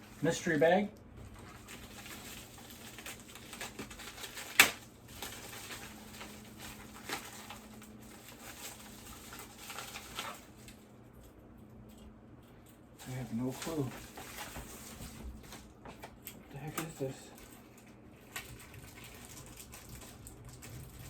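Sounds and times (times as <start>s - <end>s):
packaging rustling: 1.3s - 10.9s, 13.0s - 21.0s.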